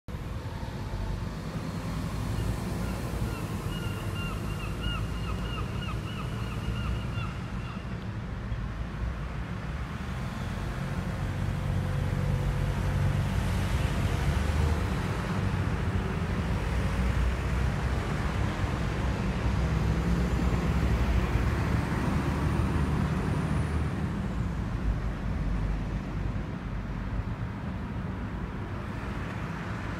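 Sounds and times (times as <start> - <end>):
distant road traffic: 0.1 - 29.9.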